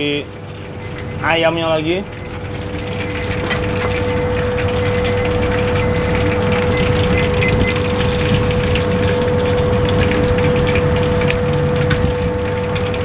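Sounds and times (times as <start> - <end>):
chicken deep-frying in oil: 0.0 - 13.0
steady machine hum: 0.0 - 13.0.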